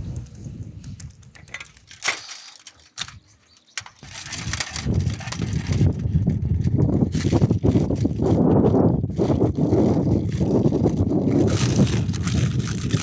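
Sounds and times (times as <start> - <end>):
wind rumble on microphone: 0.0 - 1.9, 4.0 - 13.0.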